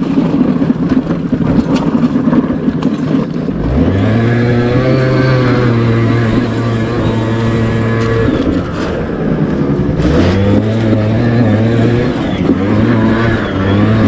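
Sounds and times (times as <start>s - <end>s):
knocks over dirt trail: 0.0s - 14.0s
scooter engine revving: 0.0s - 14.0s.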